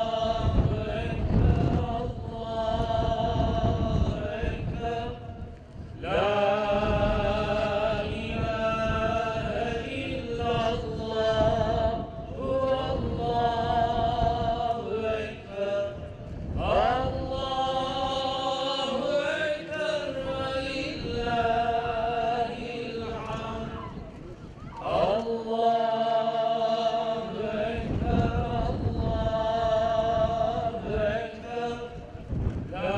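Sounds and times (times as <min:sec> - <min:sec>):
person chanting religious recitation: 0:00.0 - 0:32.9.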